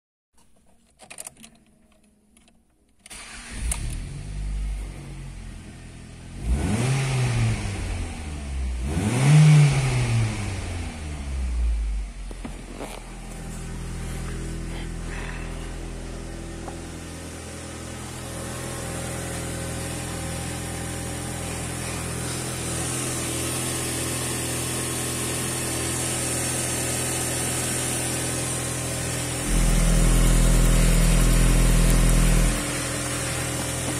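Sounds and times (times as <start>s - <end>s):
car engine starting and revving: 3.1s - 33.9s.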